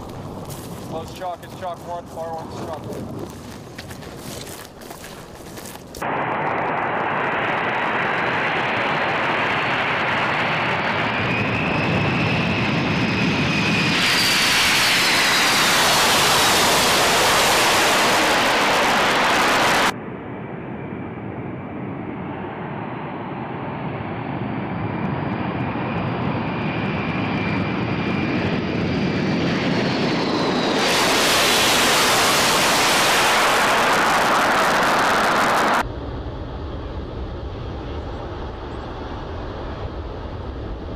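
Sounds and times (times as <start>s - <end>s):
jet engines with high whine: 0.0s - 40.9s.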